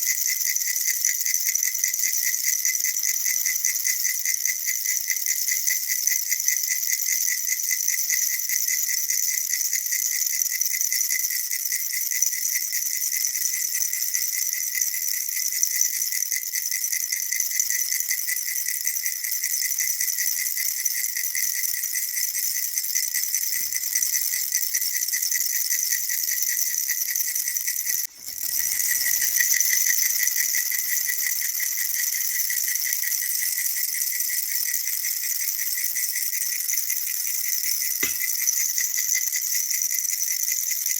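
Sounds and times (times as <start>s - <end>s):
baby rattle shaken rapidly: 0.0s - 40.9s.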